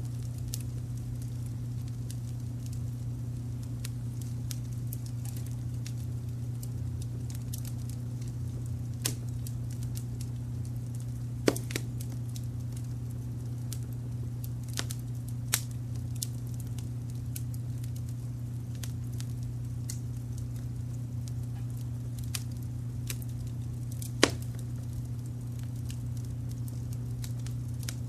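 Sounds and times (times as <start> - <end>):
louder fire snaps: 0.0 - 28.0
wood fire crackling: 0.0 - 28.0.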